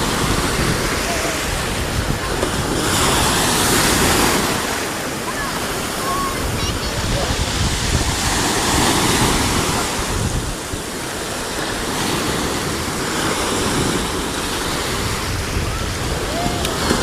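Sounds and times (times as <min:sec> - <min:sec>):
surf washing onto shore: 0:00.0 - 0:17.0.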